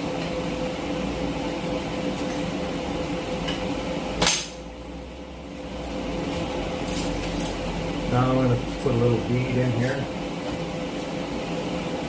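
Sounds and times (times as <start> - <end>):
machine hum with mid-pitched tone: 0.0 - 12.0.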